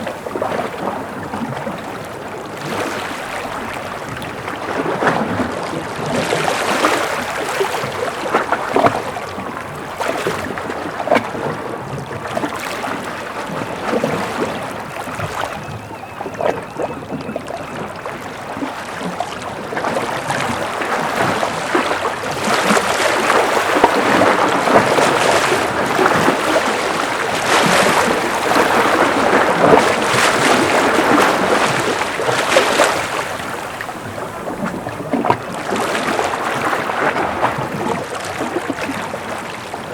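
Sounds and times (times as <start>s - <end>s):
waves splashing against rocks: 0.0s - 39.9s.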